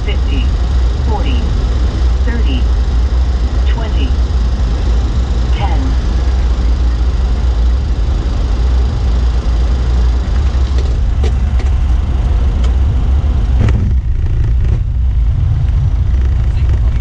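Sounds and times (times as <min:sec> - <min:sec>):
aircraft heavy rumble: 0:00.0 - 0:17.0
rushing noise: 0:00.0 - 0:17.0.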